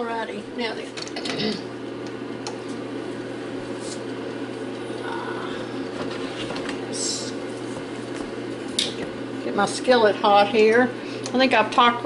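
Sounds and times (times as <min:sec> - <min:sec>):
air fryer humming: 0:00.0 - 0:12.0.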